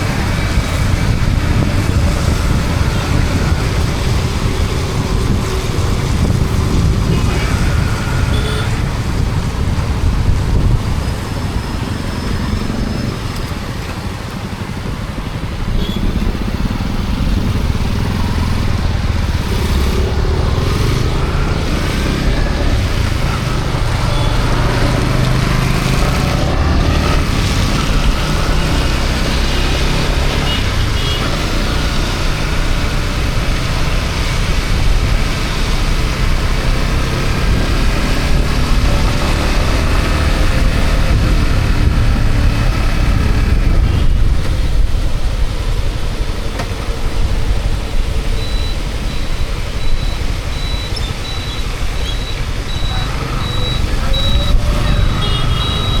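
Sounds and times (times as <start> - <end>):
motorcycle engine running: 0.0 - 56.0
tyres on wet road: 0.0 - 56.0
wind on microphone: 0.0 - 56.0.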